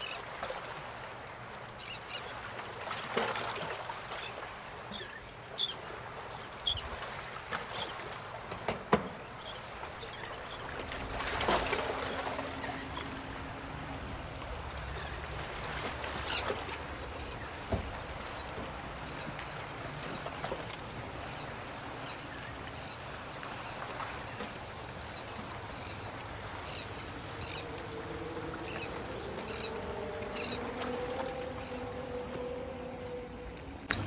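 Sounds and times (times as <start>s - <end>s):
birds calling: 3.4s - 8.1s, 8.8s - 32.4s, 33.3s - 34.0s.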